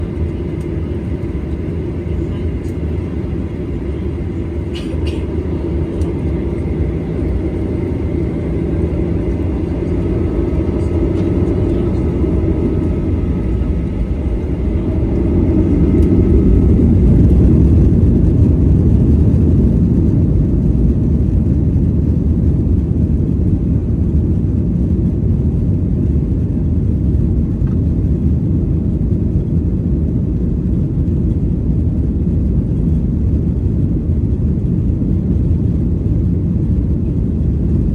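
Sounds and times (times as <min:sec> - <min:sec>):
airliner engines rumbling: 0:00.0 - 0:37.9
faint engine whine: 0:00.0 - 0:37.9.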